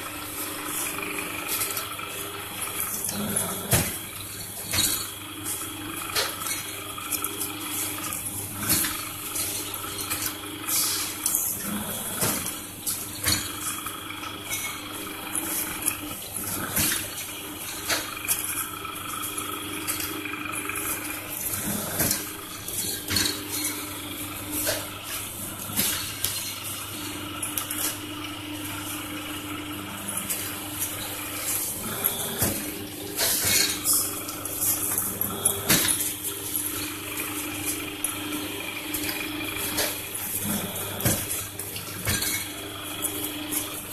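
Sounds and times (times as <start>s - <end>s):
machine humming: 0.0s - 43.9s.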